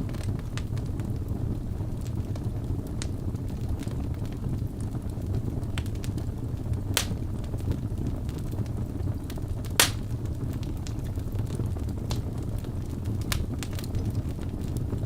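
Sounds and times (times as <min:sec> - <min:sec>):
logs burning in fireplace: 0:00.0 - 0:15.0.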